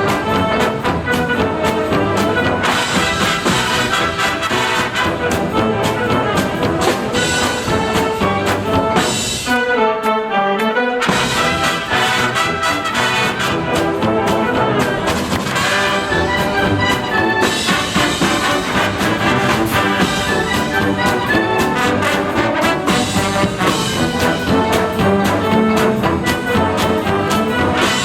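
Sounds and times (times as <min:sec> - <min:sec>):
driving drum beat: 0:00.0 - 0:09.7, 0:11.0 - 0:28.0
marching band playing: 0:00.0 - 0:28.0
trumpets and trombones: 0:00.0 - 0:28.0.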